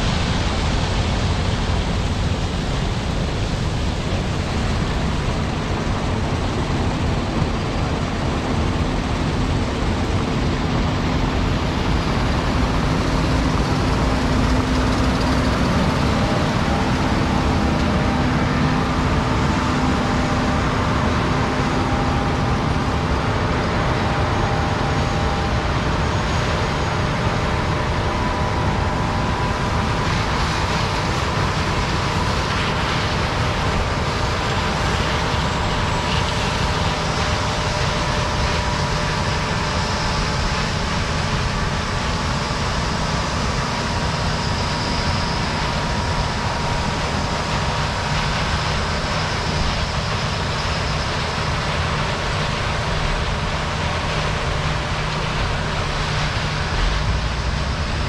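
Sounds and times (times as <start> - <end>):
combine and tractor engine drone: 0.0 - 58.0.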